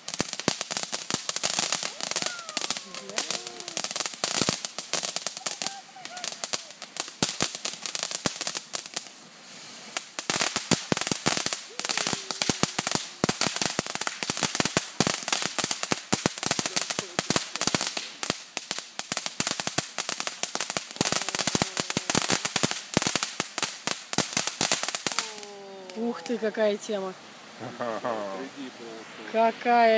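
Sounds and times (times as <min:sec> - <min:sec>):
firework crackling pops: 0:00.0 - 0:27.0
firework fountain hissing: 0:00.0 - 0:29.9.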